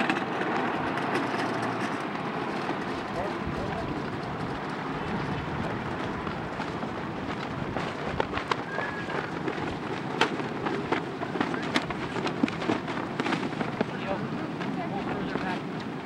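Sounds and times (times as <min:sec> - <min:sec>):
street noise: 0:00.0 - 0:16.0
boots marching on asphalt: 0:00.1 - 0:16.0.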